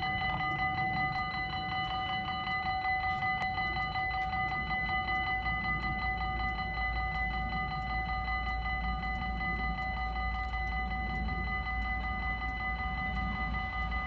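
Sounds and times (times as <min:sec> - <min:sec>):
level crossing bells ringing: 0:00.0 - 0:14.0.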